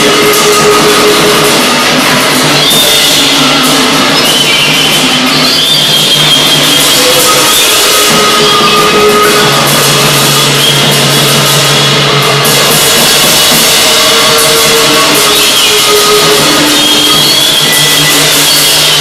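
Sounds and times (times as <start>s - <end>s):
crashing drums and cymbals: 0.0s - 19.0s.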